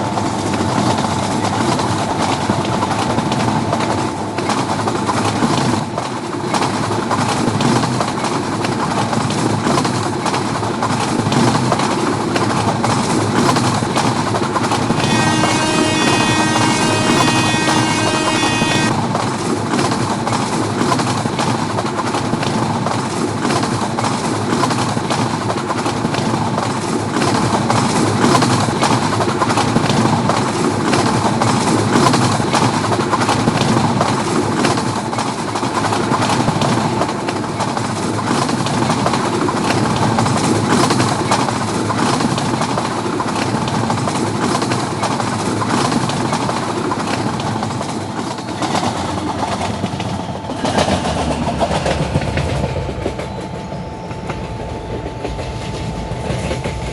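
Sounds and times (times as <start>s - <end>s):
rapid clicking and rattling: 0.0s - 18.1s, 18.8s - 53.7s
train wheels rushing on track: 0.0s - 56.9s.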